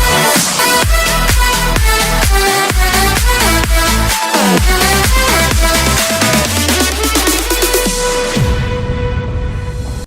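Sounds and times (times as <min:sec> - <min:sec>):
thumping kick drum: 0:00.0 - 0:09.3
electronic dance music: 0:00.0 - 0:09.9.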